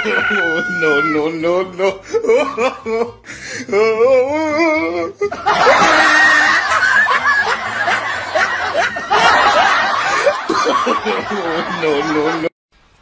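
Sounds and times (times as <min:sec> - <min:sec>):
crowd laughing: 0:00.0 - 0:03.2, 0:05.2 - 0:12.5.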